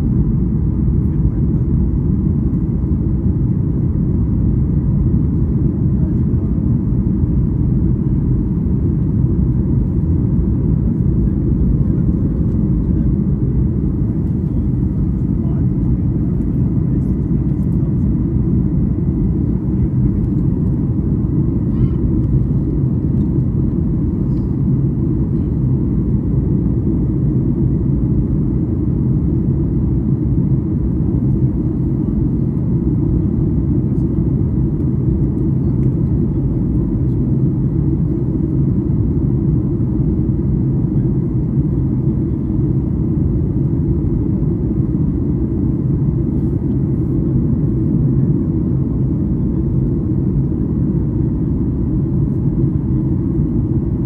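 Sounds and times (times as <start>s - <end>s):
faint constant hum: 0.0s - 54.0s
jet engines rumbling in cabin: 0.0s - 54.0s.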